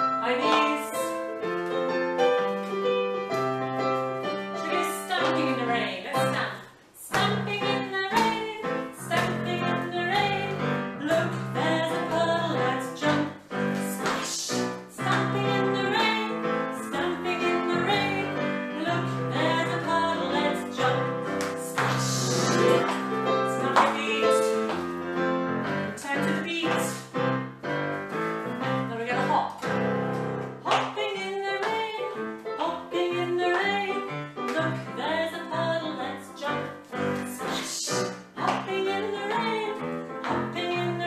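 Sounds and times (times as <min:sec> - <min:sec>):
digital piano accompaniment: 0:00.0 - 0:41.0
woman singing: 0:00.2 - 0:01.3, 0:04.5 - 0:24.7, 0:25.9 - 0:27.2, 0:28.8 - 0:29.5, 0:30.6 - 0:41.0.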